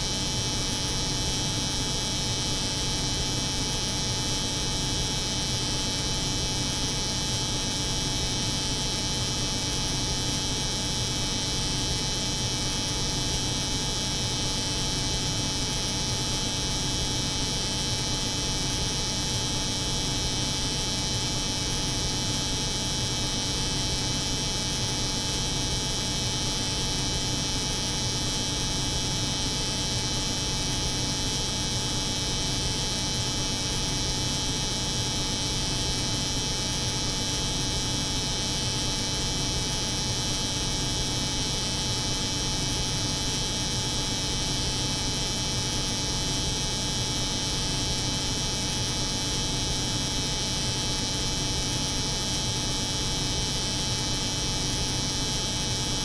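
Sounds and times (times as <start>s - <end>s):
cooling unit hum: 0.0s - 56.0s.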